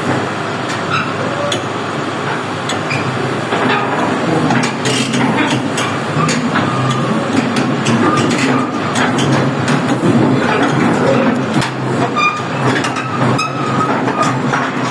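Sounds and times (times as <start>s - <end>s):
diesel engine running: 0.0s - 14.9s
metallic clinks of steel tracks: 0.7s - 14.9s.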